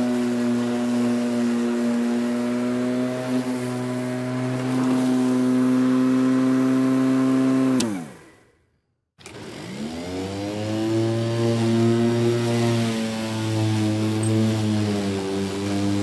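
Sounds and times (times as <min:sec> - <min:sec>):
lawnmower engine: 0:00.0 - 0:08.4, 0:09.2 - 0:16.0.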